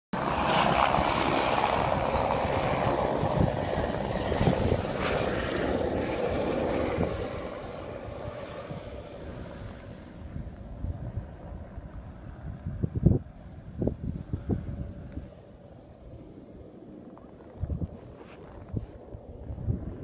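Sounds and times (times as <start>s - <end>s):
helicopter flying away: 0.2s - 20.0s.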